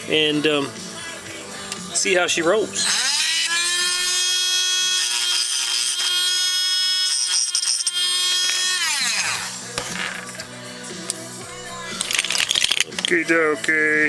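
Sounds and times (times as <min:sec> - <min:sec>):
electric drill whining: 0:01.0 - 0:13.2.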